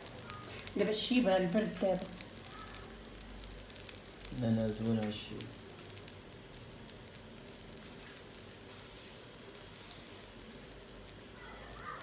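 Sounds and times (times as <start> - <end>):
batter sizzling in a pan: 0.0 - 12.0.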